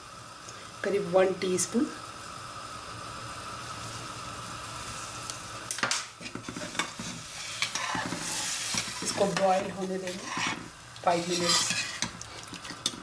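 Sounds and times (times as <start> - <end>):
soup simmering: 2.0 - 13.0.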